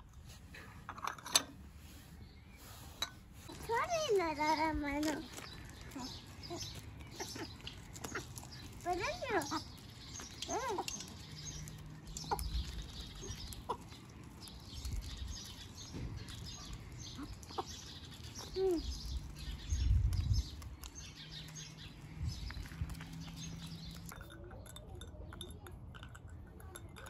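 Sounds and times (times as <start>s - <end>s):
small birds chirping: 1.7s - 27.0s.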